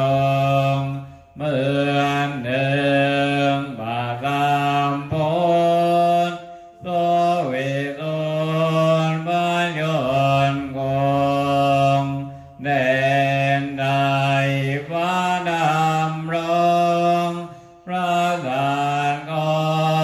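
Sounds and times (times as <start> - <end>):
monotone chanting: 0.0 - 20.0.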